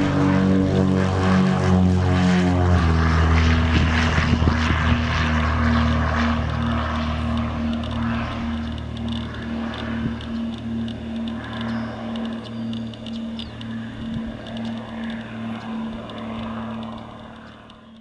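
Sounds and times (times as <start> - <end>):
propeller airplane taking off: 0.0 - 18.0.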